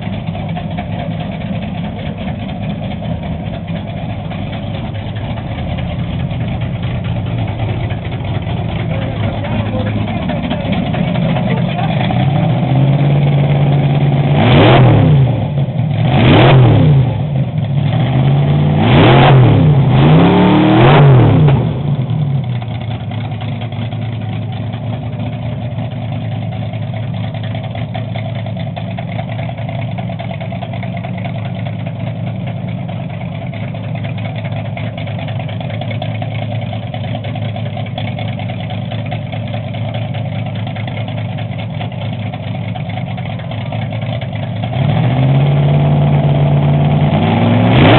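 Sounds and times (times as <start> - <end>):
car engine revving and idling: 0.0 - 47.9.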